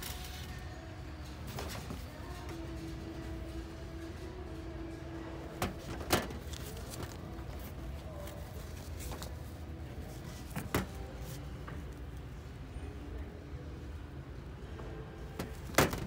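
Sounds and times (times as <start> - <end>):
store background hum: 0.0 - 16.0.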